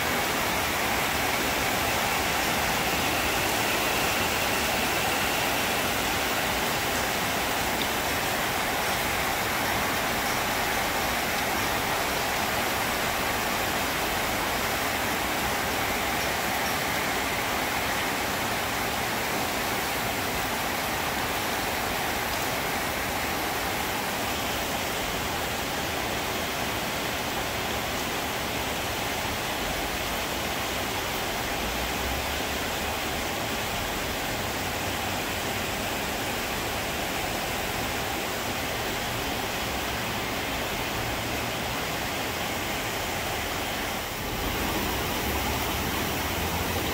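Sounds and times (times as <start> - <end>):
rain on metal roofs and trees: 0.0 - 46.9.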